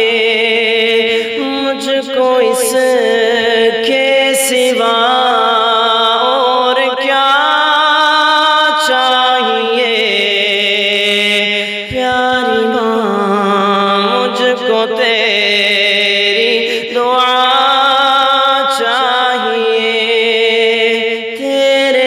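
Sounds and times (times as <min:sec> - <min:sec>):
man singing devotional chant: 0:00.0 - 0:22.0.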